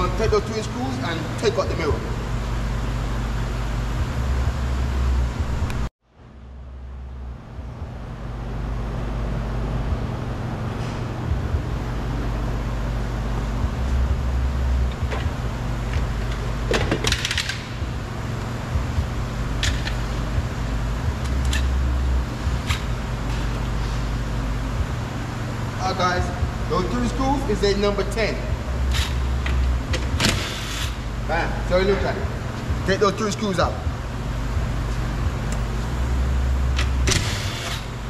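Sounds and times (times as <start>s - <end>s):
low rumble and hiss: 0.0s - 38.0s.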